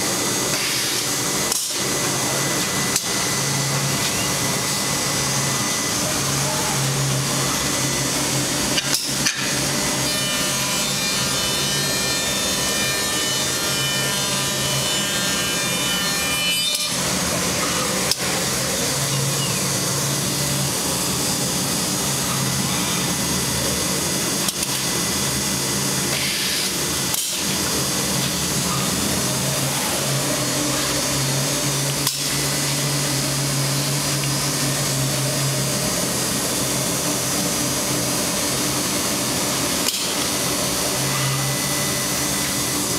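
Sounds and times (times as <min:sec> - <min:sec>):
cnc router machining wood: 0:00.0 - 0:42.9.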